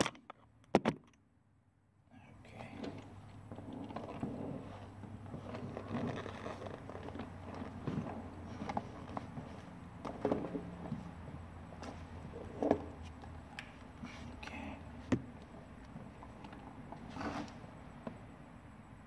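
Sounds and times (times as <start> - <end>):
faint low hum: 1.2 - 19.0.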